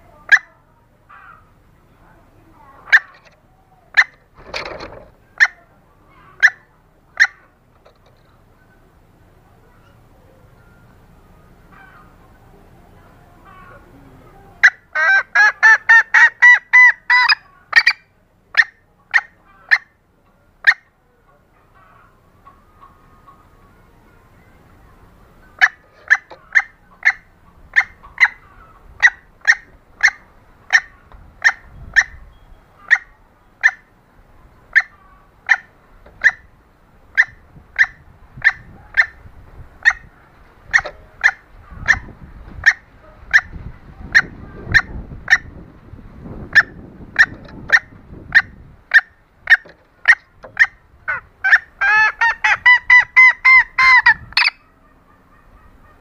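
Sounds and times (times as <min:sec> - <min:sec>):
hen clucking: 0:00.0 - 0:01.6, 0:02.6 - 0:09.0, 0:11.6 - 0:56.0.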